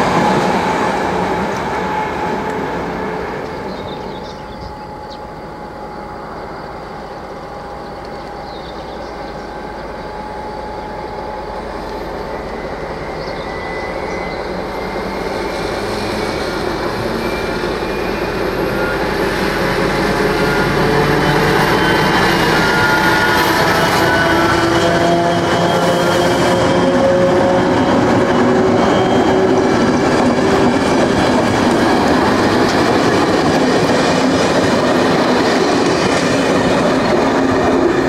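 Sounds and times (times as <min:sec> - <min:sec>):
diesel locomotive passing: 0:00.0 - 0:38.0.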